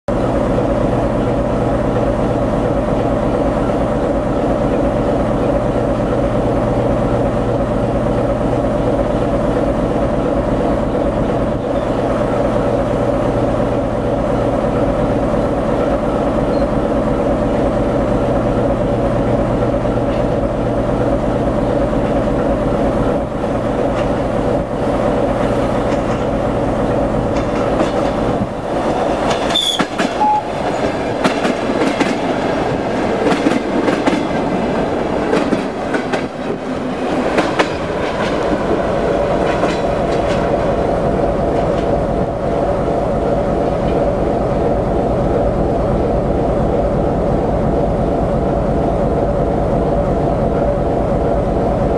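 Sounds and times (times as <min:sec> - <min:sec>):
train passing: 0:00.1 - 0:51.9
train wheels clicking on rails: 0:00.4 - 0:44.1.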